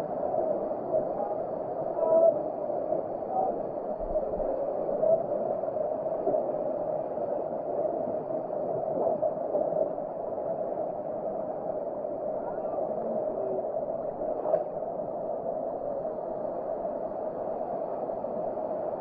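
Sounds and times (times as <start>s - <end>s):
muffled river water rushing: 0.0s - 19.0s.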